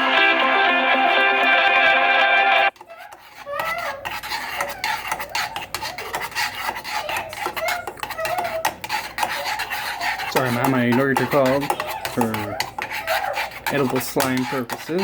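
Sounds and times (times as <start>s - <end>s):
spoon scraping a saucepan: 2.7s - 15.0s.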